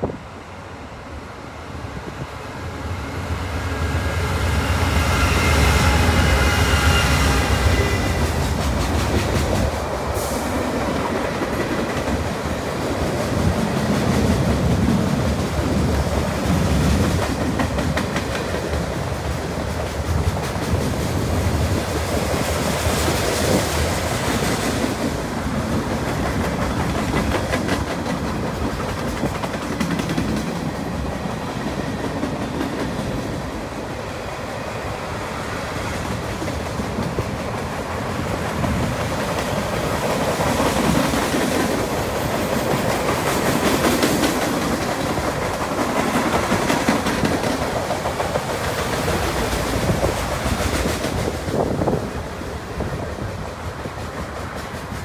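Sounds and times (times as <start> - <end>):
steady train rumble: 0.0 - 55.0
train wheels clacking on rails: 3.2 - 55.0.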